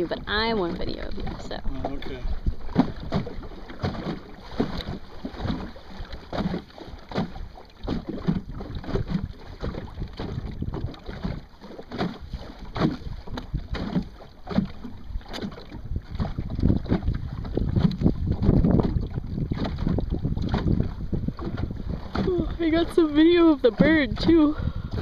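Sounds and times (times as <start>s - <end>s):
boat hull slapping through chop: 0.0s - 25.0s
wind buffeting microphone: 0.0s - 25.0s.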